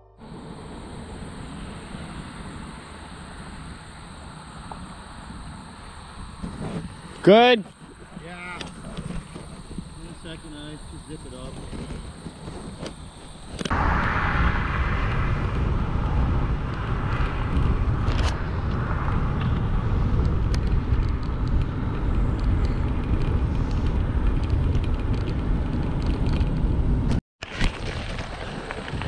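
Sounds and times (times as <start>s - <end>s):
passing car tyre noise: 0.2s - 29.0s
wind rumble on microphone: 0.2s - 29.0s.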